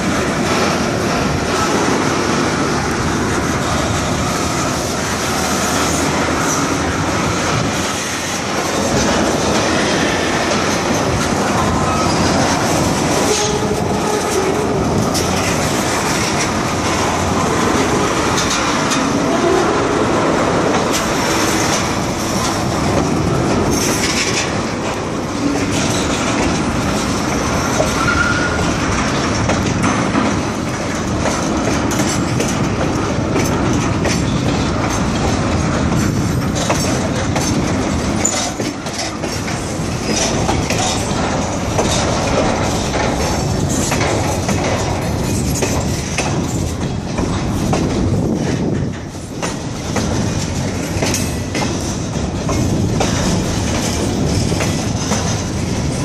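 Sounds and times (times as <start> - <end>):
rumble of steel train wheels: 0.0 - 56.0
wheels clicking over rail joints: 0.0 - 56.0.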